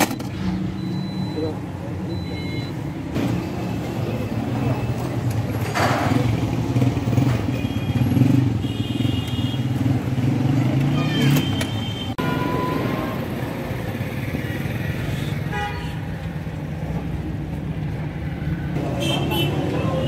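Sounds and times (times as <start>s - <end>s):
traffic motor rumble: 0.0s - 20.0s.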